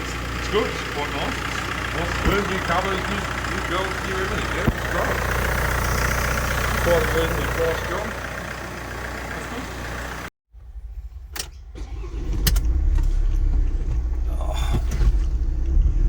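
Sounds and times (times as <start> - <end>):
diesel engine idling: 0.0 - 10.3, 11.8 - 16.0.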